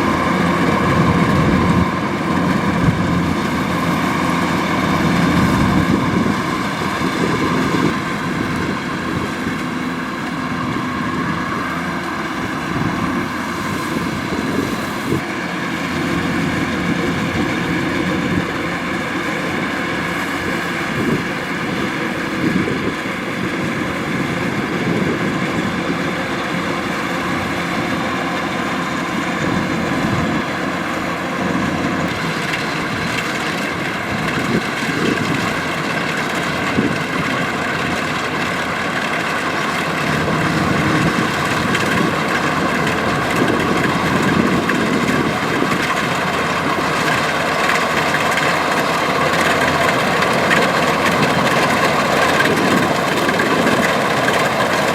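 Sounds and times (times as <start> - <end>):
combine harvester diesel drone: 0.0 - 54.9
whine of machine drives: 0.0 - 54.9.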